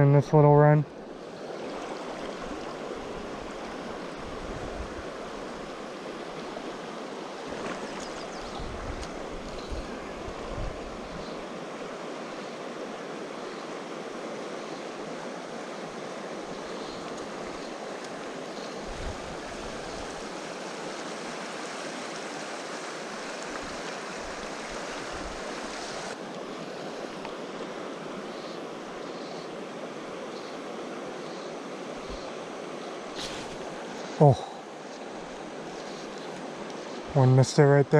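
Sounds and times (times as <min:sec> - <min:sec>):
river water rushing over rocks: 0:00.9 - 0:37.7.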